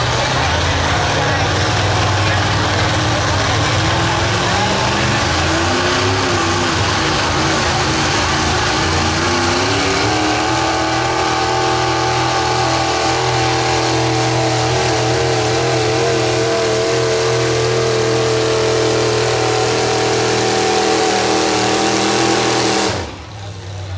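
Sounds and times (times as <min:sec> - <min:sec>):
pickup engine revving high: 0:00.0 - 0:23.9.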